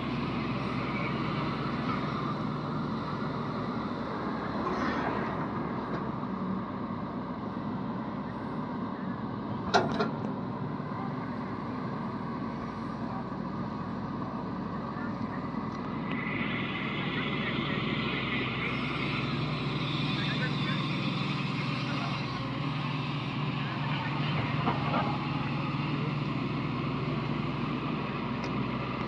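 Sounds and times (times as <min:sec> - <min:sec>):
excavator diesel engine under load: 0:00.0 - 0:29.0.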